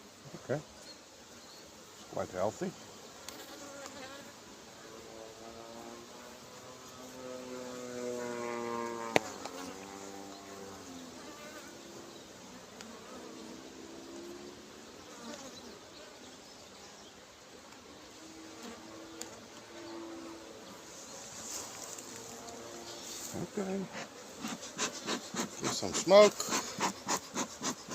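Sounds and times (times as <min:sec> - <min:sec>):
bees buzzing: 0:00.1 - 0:27.9.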